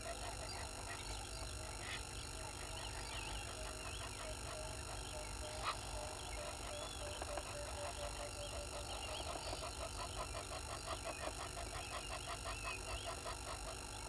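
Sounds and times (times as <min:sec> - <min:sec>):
rapid pulsing animal call: 0:00.0 - 0:14.0.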